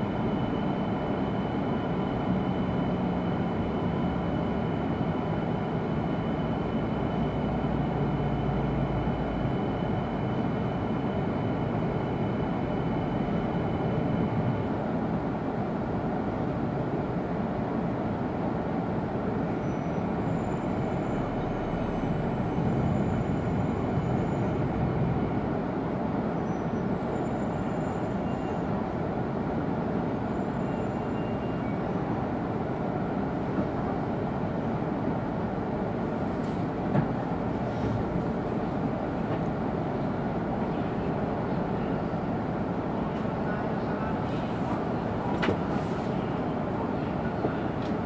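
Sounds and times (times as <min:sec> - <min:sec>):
wheels rumbling on rail: 0:00.0 - 0:48.0.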